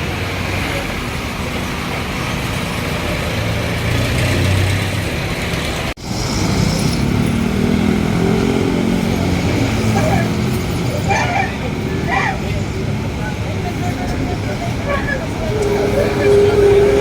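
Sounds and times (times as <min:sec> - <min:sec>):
road traffic noise: 0:00.0 - 0:17.0
vehicle engine running nearby: 0:00.0 - 0:17.0.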